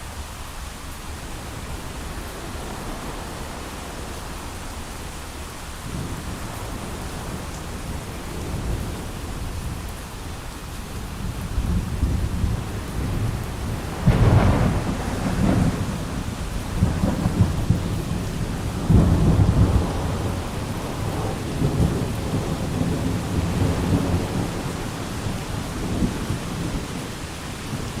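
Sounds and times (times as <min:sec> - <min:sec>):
steady rain: 0:00.0 - 0:28.0
thunder rumbling: 0:01.2 - 0:28.0.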